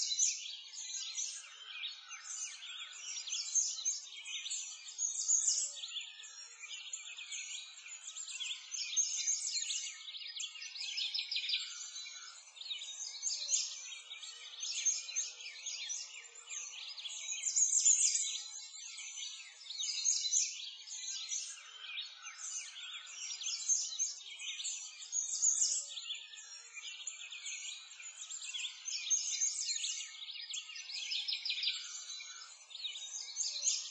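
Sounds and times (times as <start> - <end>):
birds chirping and singing: 0.0 - 33.9.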